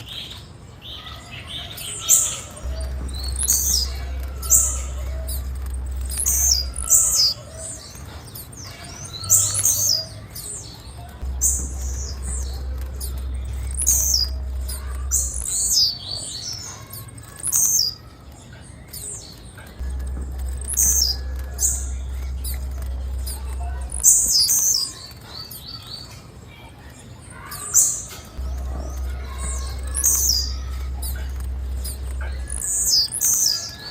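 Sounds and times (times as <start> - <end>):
bird high chirps: 0.0 - 33.9.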